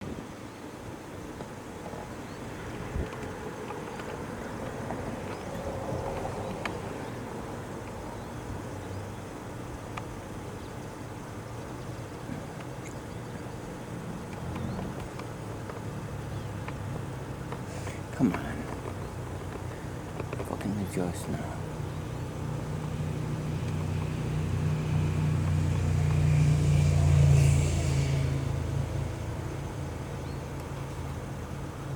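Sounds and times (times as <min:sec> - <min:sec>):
outdoor background rumble: 0:00.0 - 0:31.9
vehicle engine humming: 0:01.4 - 0:31.9.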